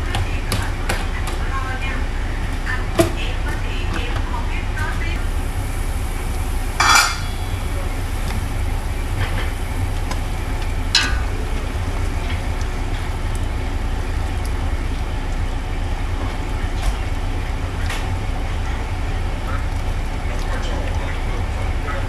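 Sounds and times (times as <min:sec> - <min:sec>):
low rumble of boiling soup: 0:00.0 - 0:22.0.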